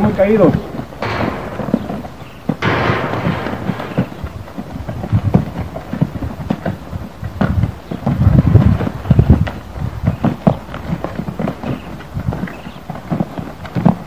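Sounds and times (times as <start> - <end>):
horse hooves thudding on sand: 0.0 - 14.0.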